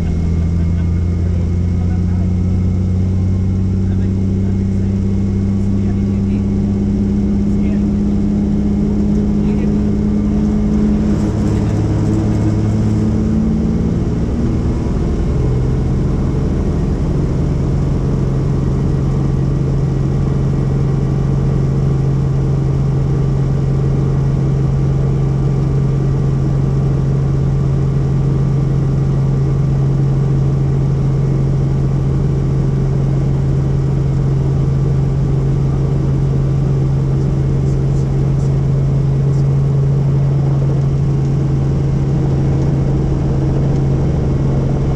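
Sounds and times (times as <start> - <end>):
helicopter drone: 0.0 - 44.9.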